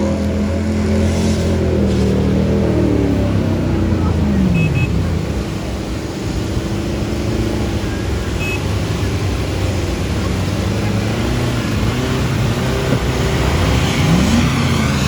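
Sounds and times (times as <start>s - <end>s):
off-road vehicle engines revving: 0.0s - 15.0s.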